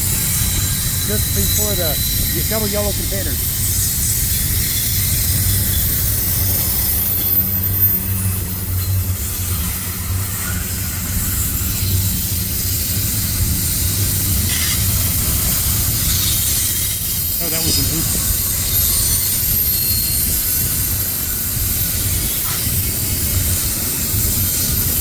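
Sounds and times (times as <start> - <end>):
freight train cars rolling past: 0.0 - 25.0.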